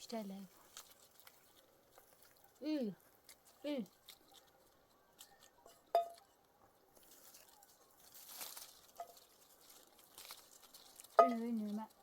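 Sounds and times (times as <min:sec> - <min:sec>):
rustling and crunching: 0:00.0 - 0:12.0.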